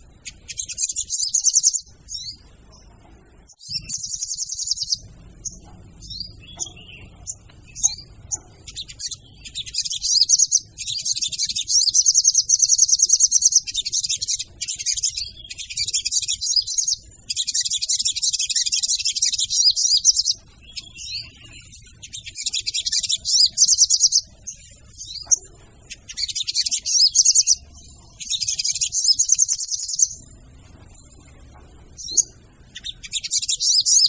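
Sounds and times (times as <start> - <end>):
birds trilled chirping: 0.0 - 34.0.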